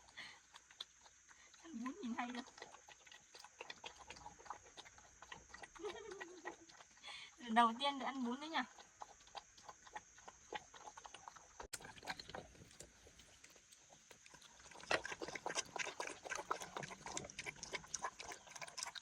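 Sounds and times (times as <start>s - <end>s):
animal chewing wetly: 0.0s - 7.4s, 8.2s - 19.0s.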